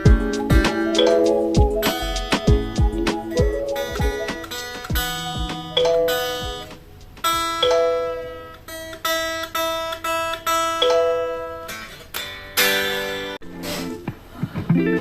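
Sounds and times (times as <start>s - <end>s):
guitar picked notes and chords: 0.0s - 15.0s.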